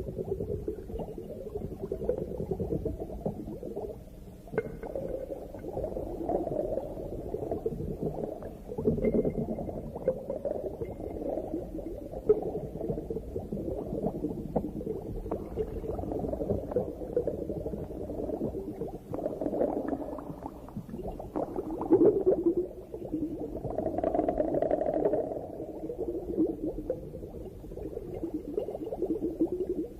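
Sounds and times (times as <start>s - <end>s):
underwater bubbling: 0.0s - 29.9s
small underwater clicks: 0.1s - 29.9s.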